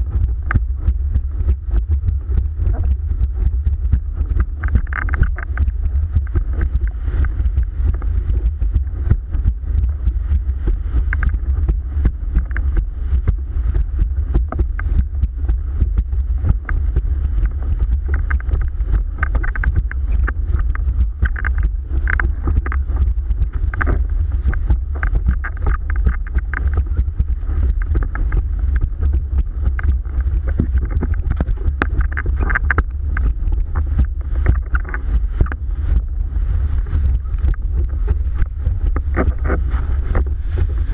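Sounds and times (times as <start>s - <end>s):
wind buffeting microphone: 0.0s - 40.9s
rushing water: 1.1s - 40.9s.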